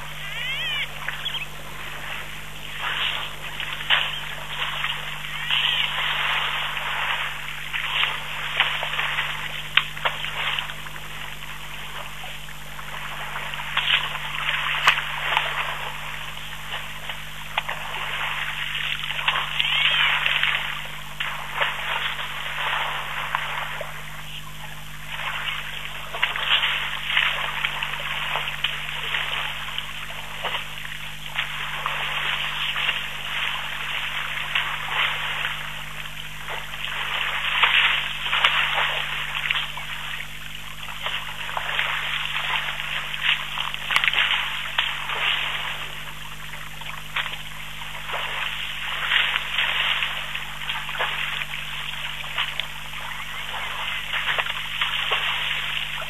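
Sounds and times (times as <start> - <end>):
water splashing and trickling: 0.0 - 56.0.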